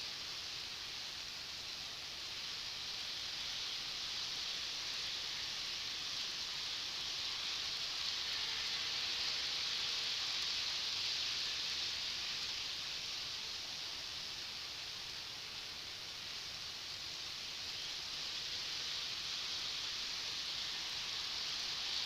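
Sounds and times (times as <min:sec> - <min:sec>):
model train whirring: 0:00.0 - 0:22.0.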